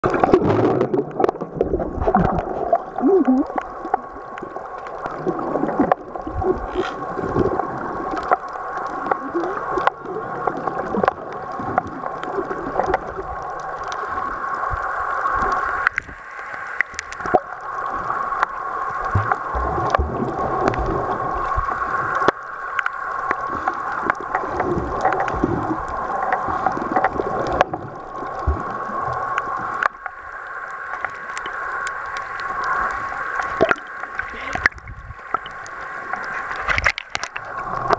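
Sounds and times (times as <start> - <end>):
bubbly gurgles: 0.0 - 37.9
muffled underwater noise: 0.0 - 37.9
sharp clicks and crackles: 0.0 - 37.9.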